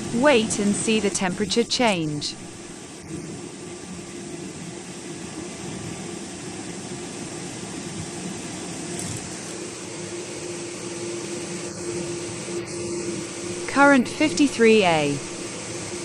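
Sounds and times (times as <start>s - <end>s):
air conditioner fan rushing: 0.0s - 16.0s.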